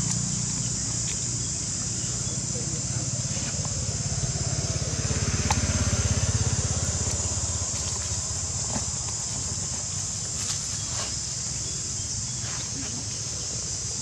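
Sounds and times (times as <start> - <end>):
motorbike engine passing: 0.0 - 12.5.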